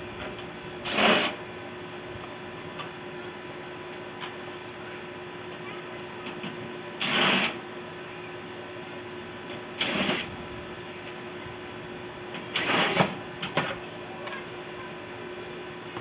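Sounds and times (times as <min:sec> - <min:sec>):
noisy bursts of work on microwave: 0:00.0 - 0:16.0.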